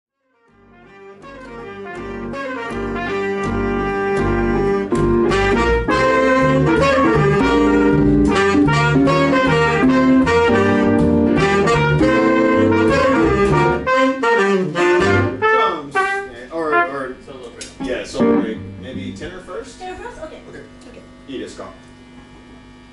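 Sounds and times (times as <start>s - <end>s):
jazz band playing: 0.5s - 20.1s.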